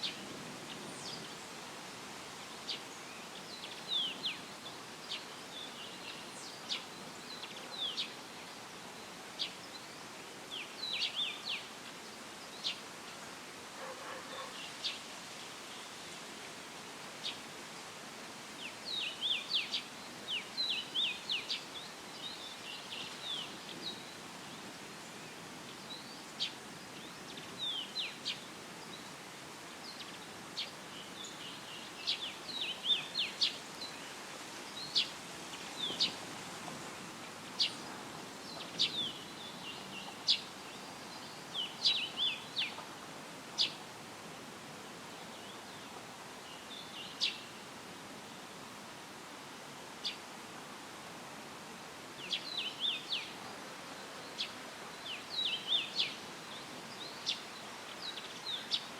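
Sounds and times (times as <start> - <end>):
small songbirds chirping: 0.0 - 16.3, 17.2 - 43.9, 45.0 - 49.1, 50.0 - 50.4, 51.9 - 58.9
leaves rustling in breeze: 0.0 - 58.9.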